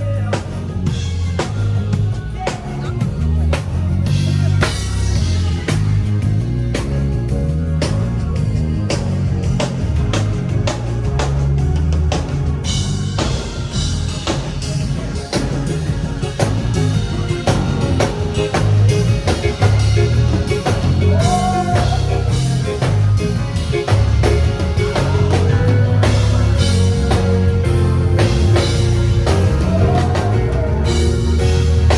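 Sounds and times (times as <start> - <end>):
drum kit: 0.0 - 31.9
guitar playing: 0.0 - 31.9
rock music: 0.0 - 31.9.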